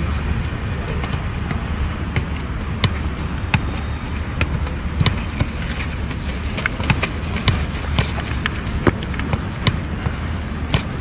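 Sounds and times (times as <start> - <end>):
low outdoor rumble: 0.0 - 11.0
foot knocking football: 1.0 - 5.9, 6.5 - 11.0.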